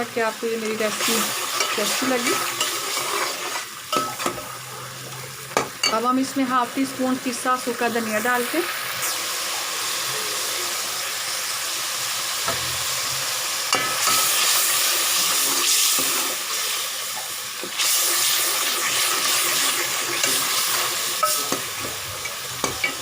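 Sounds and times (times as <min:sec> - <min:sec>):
masala sizzling in a pot: 0:00.0 - 0:23.0.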